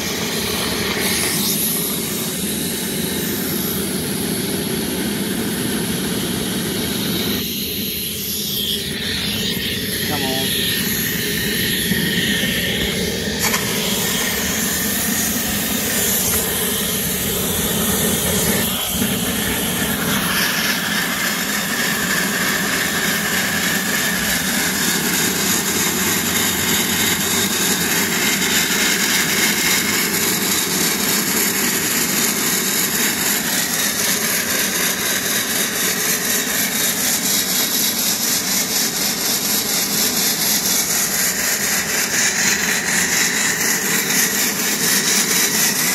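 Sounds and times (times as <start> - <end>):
steam rushing: 0.0 - 45.9.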